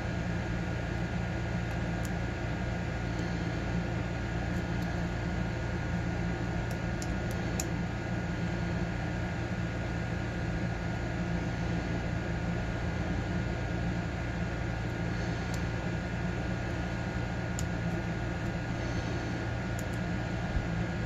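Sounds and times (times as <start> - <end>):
fan-like hum and hiss: 0.0 - 21.0.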